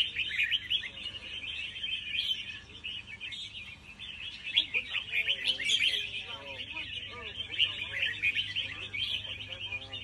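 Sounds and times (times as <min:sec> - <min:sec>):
birds chirping and twittering: 0:00.0 - 0:10.0.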